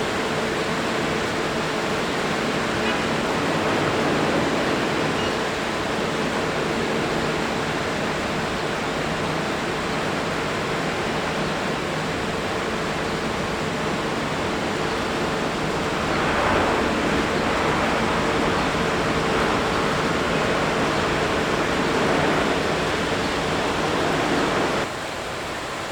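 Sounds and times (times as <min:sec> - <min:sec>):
jet airliner engines running: 0:00.0 - 0:24.9.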